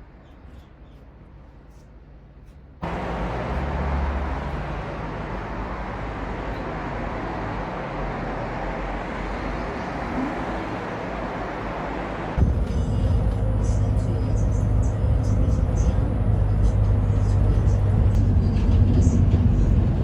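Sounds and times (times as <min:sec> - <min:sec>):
road vehicle rumble and hiss: 0:01.6 - 0:20.0.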